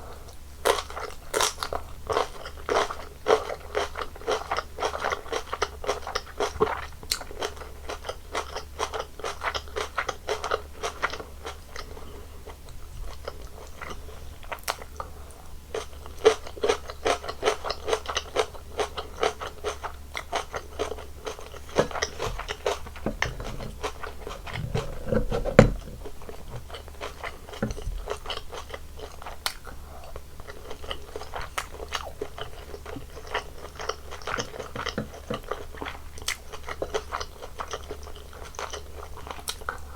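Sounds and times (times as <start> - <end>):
crunchy wet chewing: 0.1 - 39.9.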